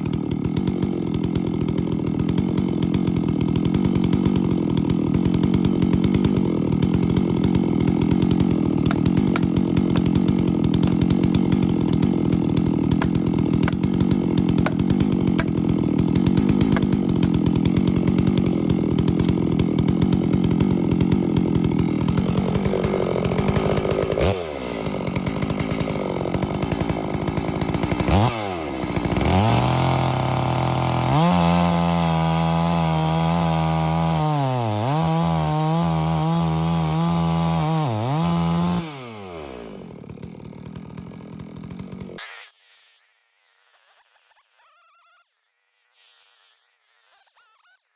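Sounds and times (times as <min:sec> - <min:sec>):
chainsaw cutting wood: 0:00.0 - 0:42.5, 0:47.0 - 0:47.9.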